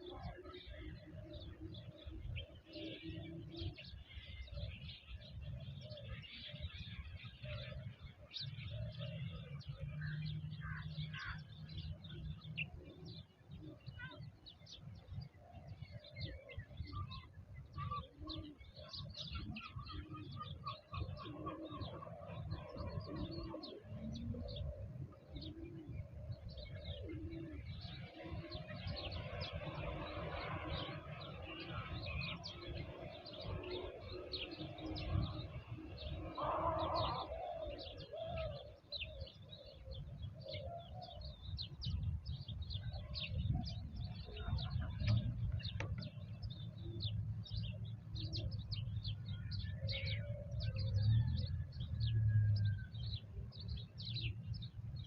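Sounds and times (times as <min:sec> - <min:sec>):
doves cooing: 0:00.0 - 0:54.7
small birds chirping: 0:00.0 - 0:55.0.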